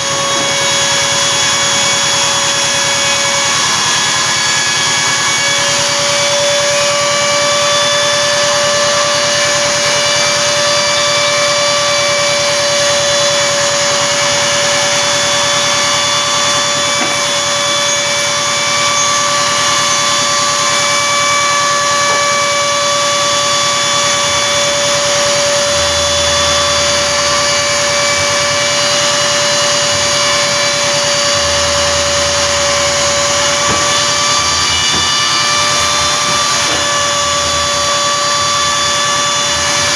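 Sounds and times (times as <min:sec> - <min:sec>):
router spindle motor whine: 0:00.0 - 0:39.9
low hum: 0:04.4 - 0:39.6.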